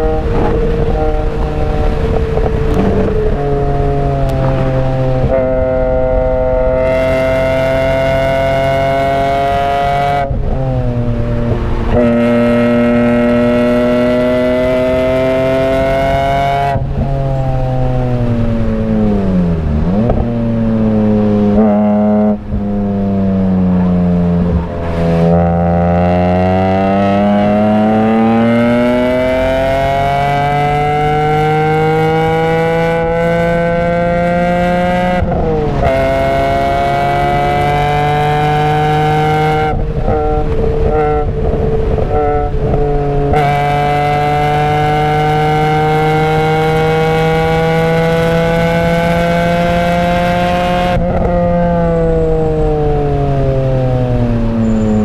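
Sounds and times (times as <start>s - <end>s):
car engine revving high: 0.0s - 55.0s.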